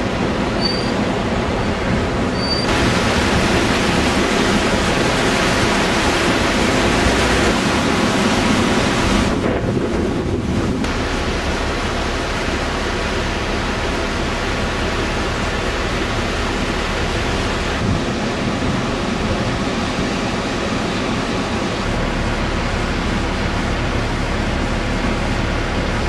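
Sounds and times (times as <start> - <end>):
river rushing in flood: 0.0 - 26.0.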